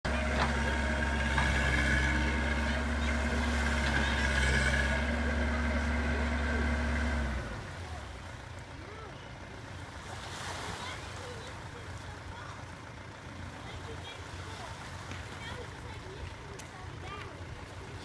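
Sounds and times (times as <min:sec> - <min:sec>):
tractor engine running: 0:00.0 - 0:10.1, 0:11.2 - 0:18.0.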